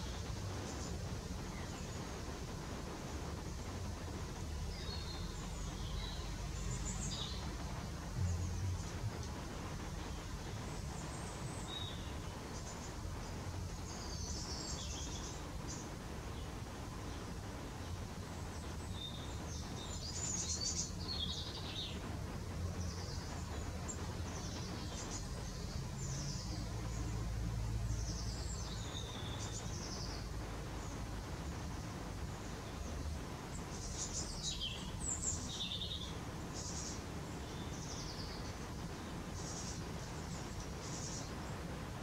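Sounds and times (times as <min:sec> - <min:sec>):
low background rumble: 0:00.0 - 0:42.0
songbirds calling: 0:00.0 - 0:42.0.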